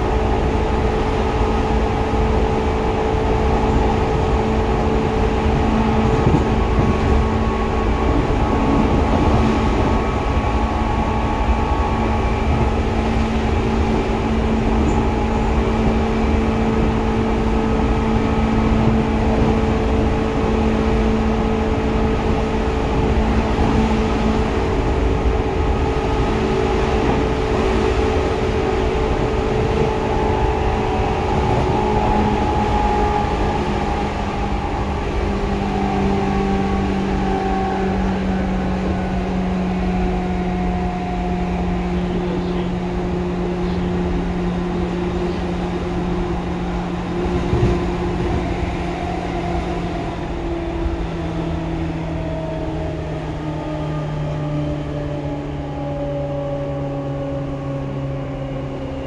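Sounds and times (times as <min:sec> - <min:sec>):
rail rumble: 0:00.0 - 0:59.0
train motor whine: 0:00.0 - 0:59.0.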